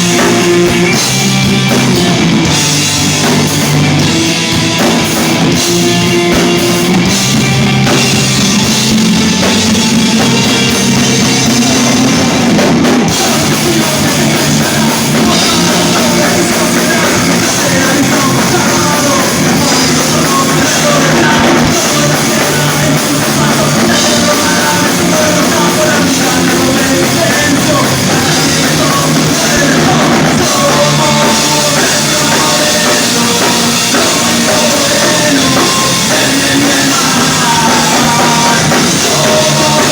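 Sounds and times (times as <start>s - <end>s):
live rock band playing: 0.0s - 39.9s
person singing: 2.9s - 39.9s.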